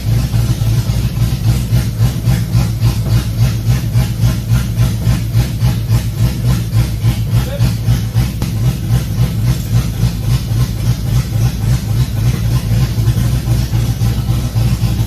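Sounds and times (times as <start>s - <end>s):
car engine lumpy idle: 0.0s - 15.0s.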